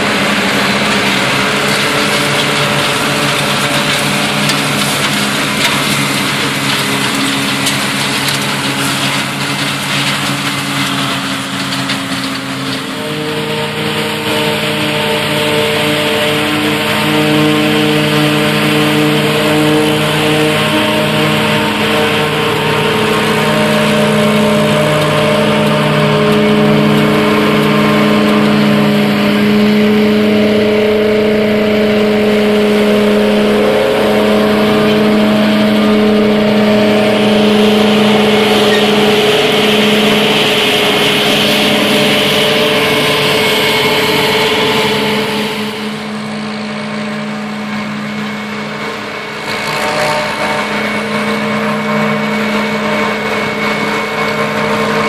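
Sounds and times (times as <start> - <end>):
forage harvester drone with rushing hiss: 0.0 - 55.0
tractor engine: 0.0 - 55.0.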